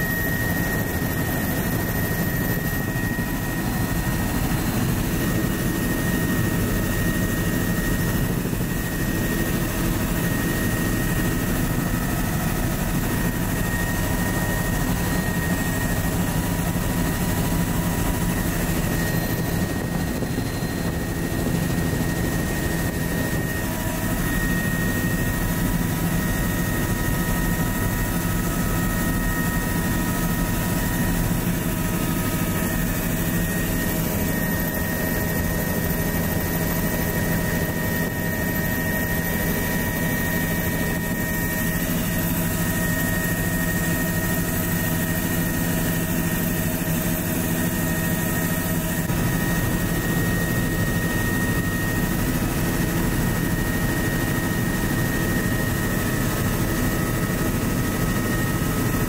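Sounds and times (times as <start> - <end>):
helicopter rotor and engine noise: 0.0 - 59.0
steady high whine: 0.0 - 59.0.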